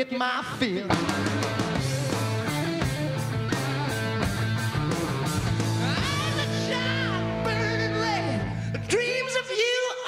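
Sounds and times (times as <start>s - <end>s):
bass: 0.4s - 9.9s
electric guitar riff: 0.9s - 9.5s.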